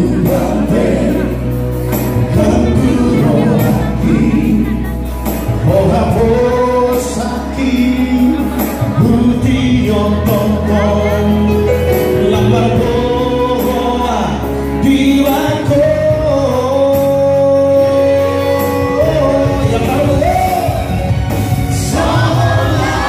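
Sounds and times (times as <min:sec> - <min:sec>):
backing music with steady beat: 0:00.0 - 0:23.0
male vocal trio singing in harmony: 0:00.0 - 0:23.0.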